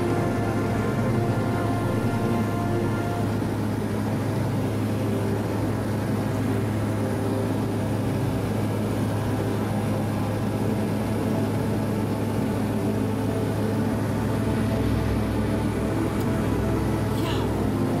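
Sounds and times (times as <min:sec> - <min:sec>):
turboprop cabin drone: 0:00.0 - 0:18.0.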